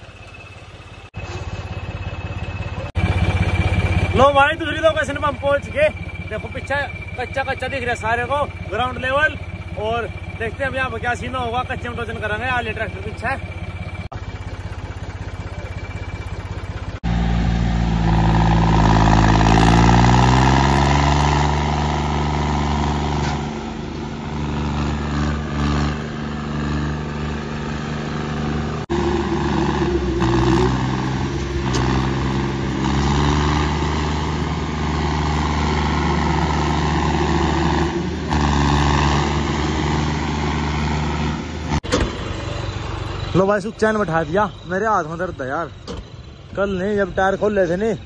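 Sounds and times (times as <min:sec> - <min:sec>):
diesel tractor engines under load: 0:00.0 - 0:48.0.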